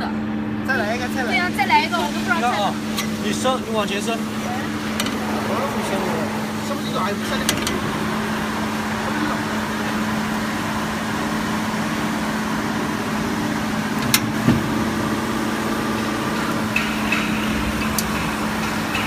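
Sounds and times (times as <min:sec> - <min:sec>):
hydraulic motor and pump hum: 0:01.9 - 0:19.0.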